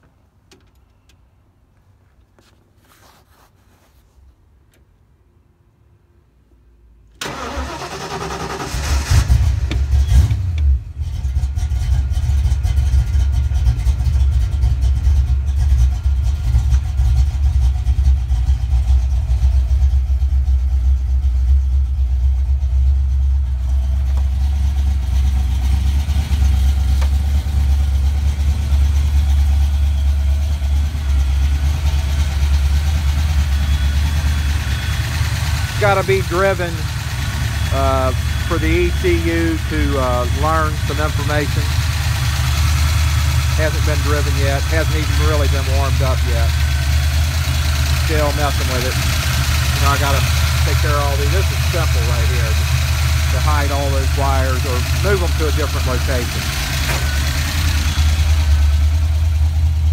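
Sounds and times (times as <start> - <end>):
car engine starting and idling: 6.9 - 59.9.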